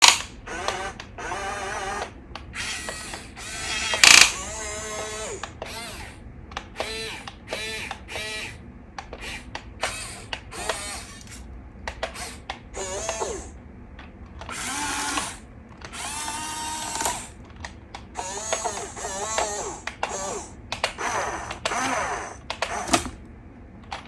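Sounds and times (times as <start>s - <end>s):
electric gear motors whirring: 0.0s - 13.6s, 14.4s - 23.2s.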